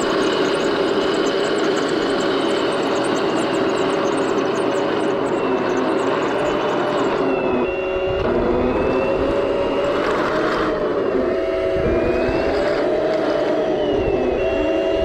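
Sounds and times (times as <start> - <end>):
toy tank electric motors whining: 0.0 - 15.0.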